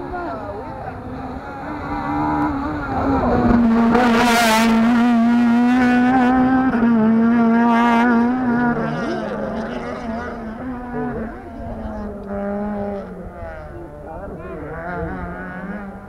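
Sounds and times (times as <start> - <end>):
rally car engine passing at speed: 0.0 - 16.0.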